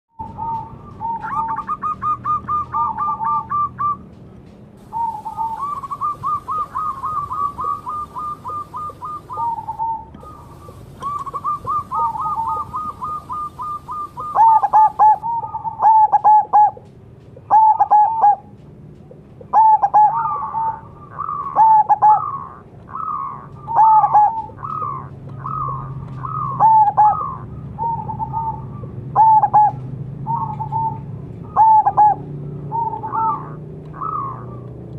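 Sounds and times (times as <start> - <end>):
dove cooing: 0.2 - 4.0, 4.8 - 18.5, 19.1 - 34.7.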